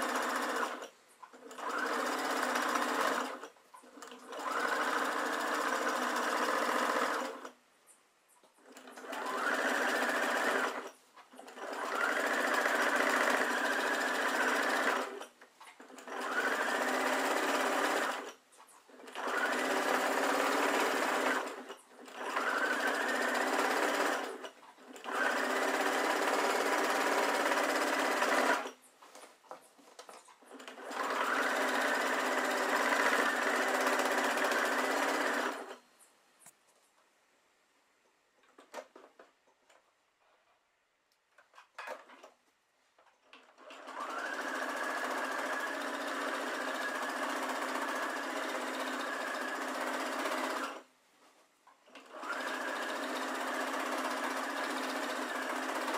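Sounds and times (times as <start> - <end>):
sewing machine stitching: 0.0 - 7.6, 8.4 - 35.8, 43.0 - 50.9, 51.8 - 55.9.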